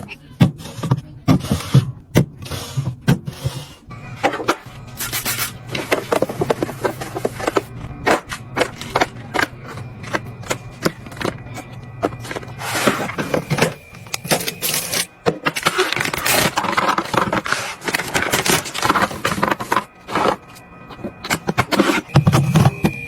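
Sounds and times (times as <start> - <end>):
rustling and scraping: 0.6 - 23.0.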